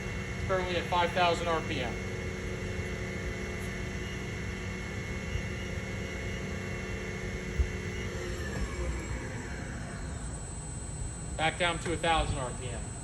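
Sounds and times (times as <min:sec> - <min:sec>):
mill spindle whining: 0:00.0 - 0:13.0
motor and air noise: 0:00.0 - 0:13.0.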